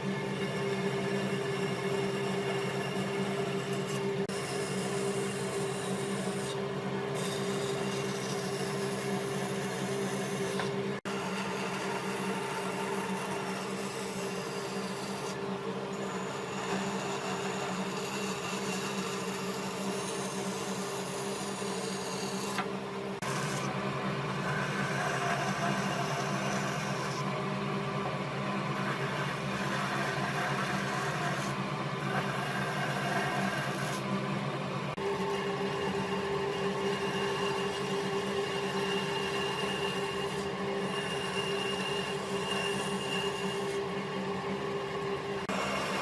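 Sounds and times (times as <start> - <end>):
power tool rasping on wood: 0.0 - 27.3, 28.8 - 34.1, 35.0 - 43.8.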